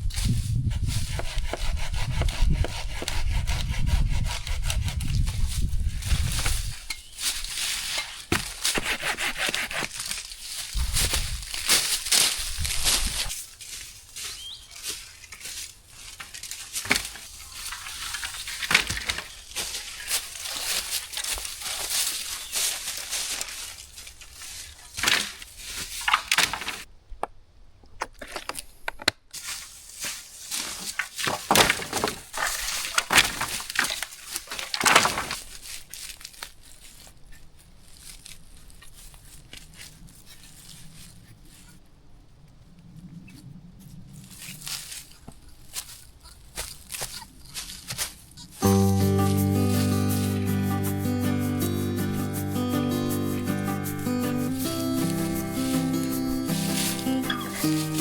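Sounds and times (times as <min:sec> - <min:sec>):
dry leaves crunching: 0:05.2 - 0:08.7, 0:09.9 - 0:26.9, 0:29.4 - 0:41.6, 0:44.2 - 0:58.0.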